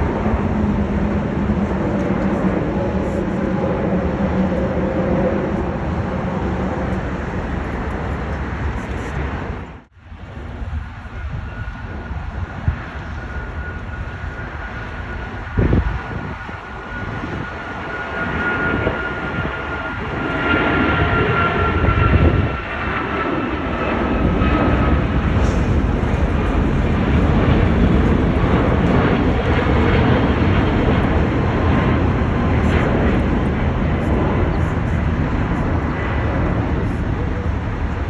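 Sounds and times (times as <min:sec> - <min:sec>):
high engine whine: 0:00.0 - 0:38.0
jet airliner passing: 0:00.0 - 0:38.0.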